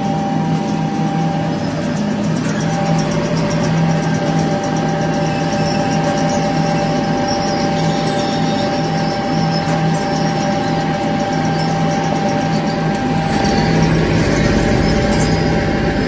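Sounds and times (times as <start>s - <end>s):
high machine whine: 0.0s - 16.0s
machine mechanical hum: 0.0s - 16.0s.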